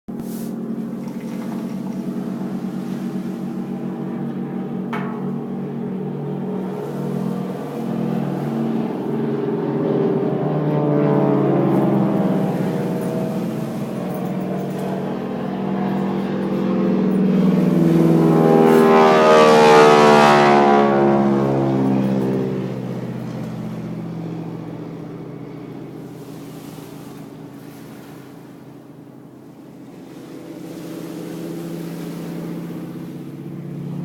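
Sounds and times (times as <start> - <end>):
propeller aircraft flying over: 0.1 - 34.0.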